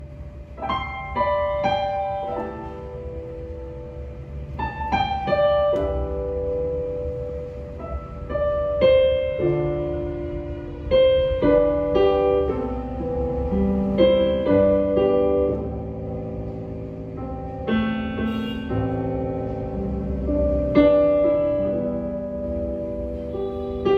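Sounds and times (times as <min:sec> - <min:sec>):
slow piano piece: 0:00.0 - 0:23.9.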